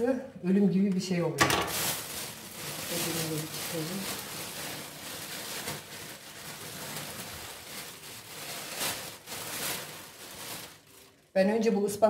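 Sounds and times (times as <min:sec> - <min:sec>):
plastic bag crinkling: 0:01.4 - 0:11.4.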